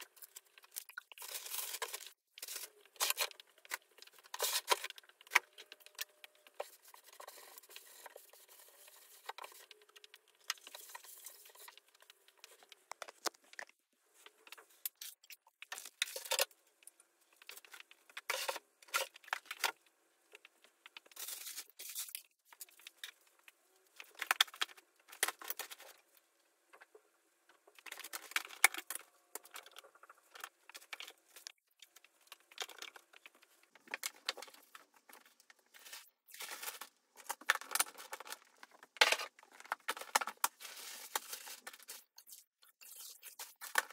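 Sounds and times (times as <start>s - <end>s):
rustling and crinkling: 0.0s - 43.9s.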